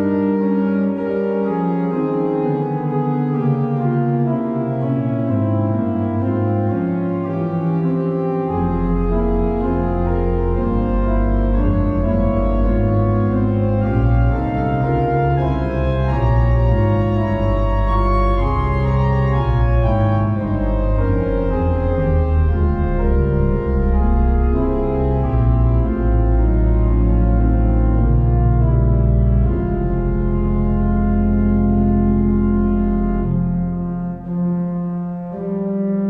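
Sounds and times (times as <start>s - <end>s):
deep organ pedal bass notes: 0.0s - 36.0s
organ playing a fugue: 0.0s - 36.0s.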